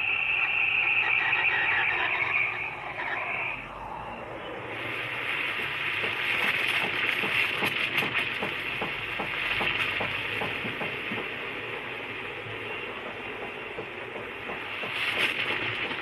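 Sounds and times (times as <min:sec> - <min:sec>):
steam wand hissing: 0:00.0 - 0:16.0.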